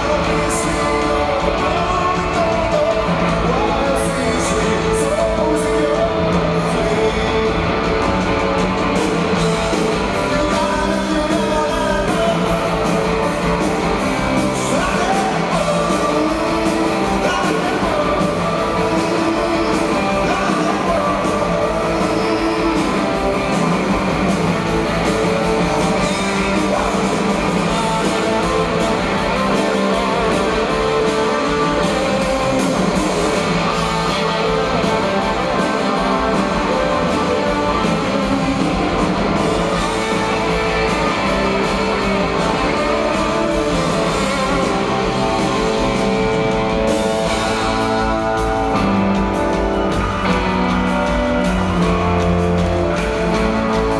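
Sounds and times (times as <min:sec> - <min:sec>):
guitars: 0:00.0 - 0:53.9
live rock band playing: 0:00.0 - 0:53.9
person singing: 0:00.0 - 0:53.9.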